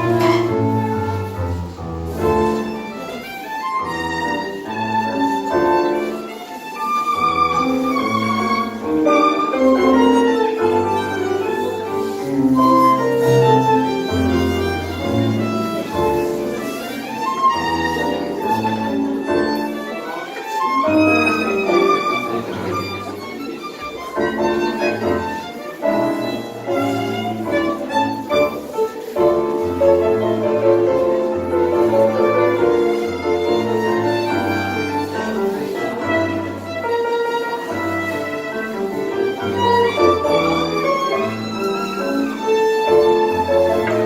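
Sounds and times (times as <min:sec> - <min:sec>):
tango ensemble playing: 0:00.0 - 0:44.0
violin melody: 0:00.0 - 0:44.0.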